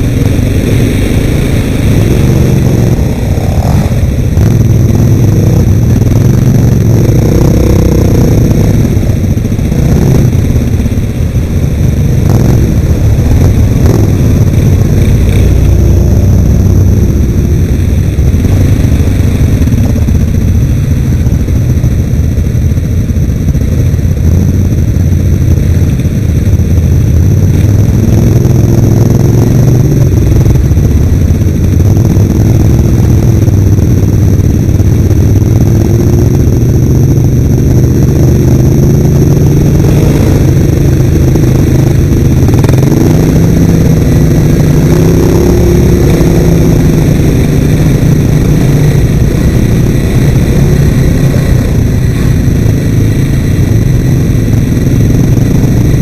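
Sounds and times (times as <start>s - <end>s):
off-road vehicle engines: 0.0s - 56.0s.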